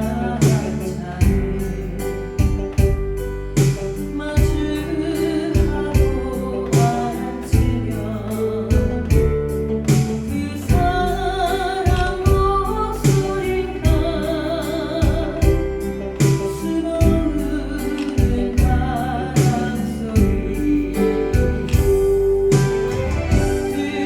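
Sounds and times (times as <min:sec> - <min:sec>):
woman singing with vibrato: 0:00.0 - 0:02.9, 0:04.0 - 0:24.0
pop band accompaniment: 0:00.0 - 0:24.0.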